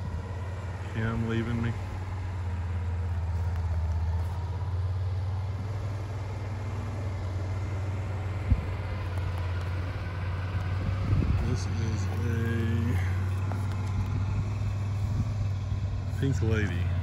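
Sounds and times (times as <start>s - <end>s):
utility vehicle engine rumble: 0.0s - 17.0s.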